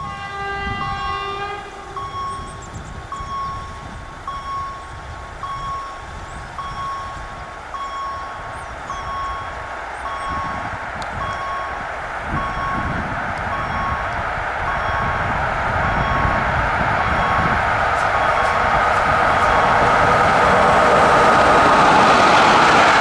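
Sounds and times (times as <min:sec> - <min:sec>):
level crossing warning tone: 0:00.0 - 0:23.0
passenger train passing: 0:00.0 - 0:23.0.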